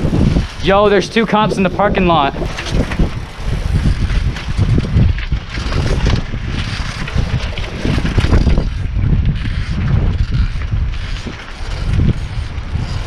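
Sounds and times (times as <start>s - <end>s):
bike tyre rumble: 0.0s - 13.0s
wind buffeting microphone: 0.0s - 13.0s.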